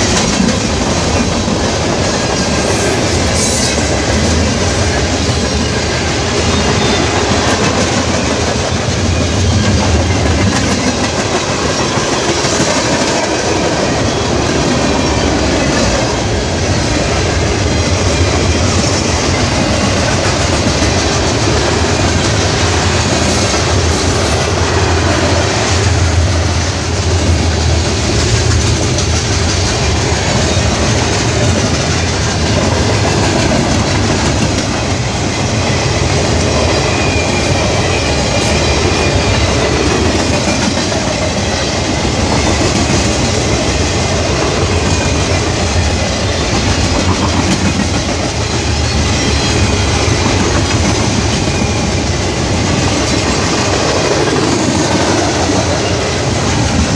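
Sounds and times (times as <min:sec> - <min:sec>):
train cars rolling on track: 0:00.0 - 0:56.9.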